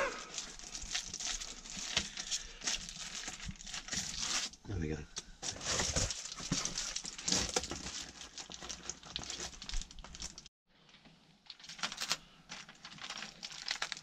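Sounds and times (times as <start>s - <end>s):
foil insulation crinkling: 0.0s - 14.0s.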